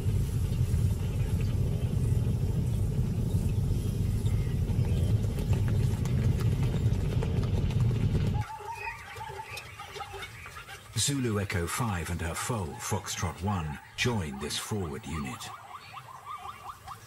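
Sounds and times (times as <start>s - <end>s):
herd hooves trampling: 0.0s - 15.6s.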